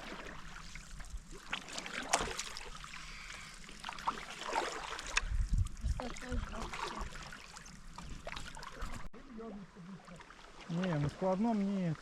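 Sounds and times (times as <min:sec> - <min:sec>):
paddle splashing and dripping: 0:00.0 - 0:12.0.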